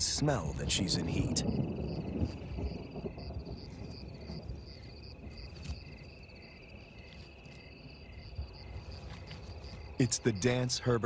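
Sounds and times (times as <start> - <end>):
crickets trilling: 0.0 - 11.0
pulsing insect call: 1.2 - 10.9.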